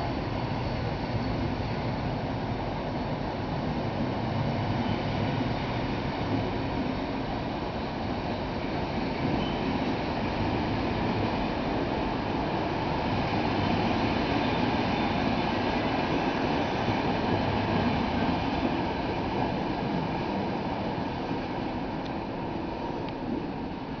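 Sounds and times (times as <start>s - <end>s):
passenger train rumbling on rails: 0.0s - 24.0s.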